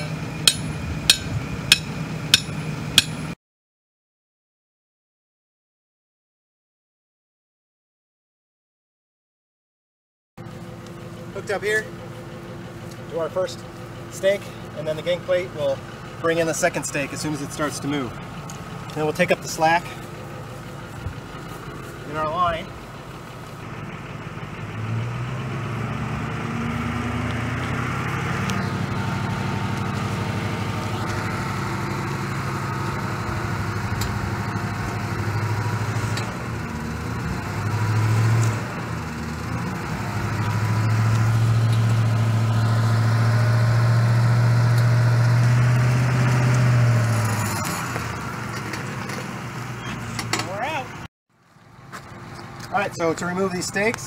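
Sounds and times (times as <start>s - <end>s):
truck engine running under load: 0.0s - 3.4s, 10.4s - 54.0s.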